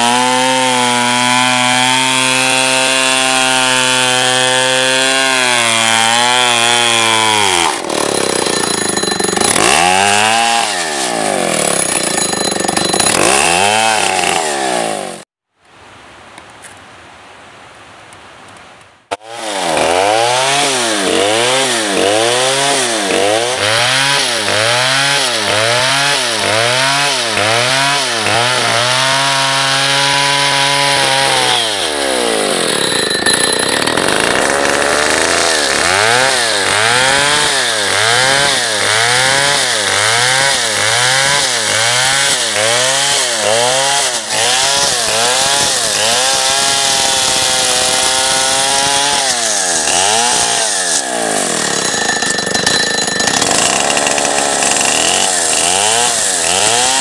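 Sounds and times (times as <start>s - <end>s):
chainsaw cutting log: 0.0s - 15.3s, 19.1s - 57.0s.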